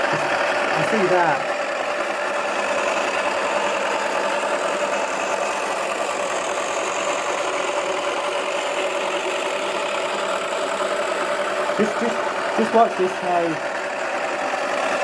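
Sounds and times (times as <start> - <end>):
toy washing machine whirring: 0.0 - 15.0.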